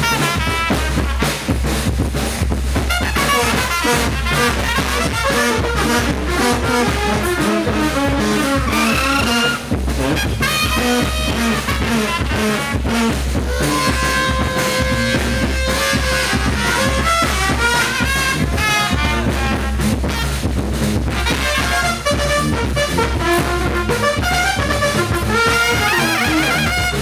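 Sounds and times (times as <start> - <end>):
trumpet lines: 0.0 - 1.5, 2.8 - 20.5, 21.1 - 27.0
steady drum beat: 0.0 - 27.0.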